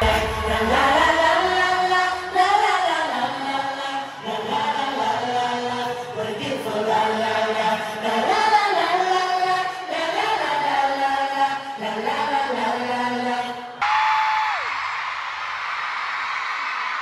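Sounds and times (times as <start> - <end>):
crowd singing along: 0.0 - 13.9.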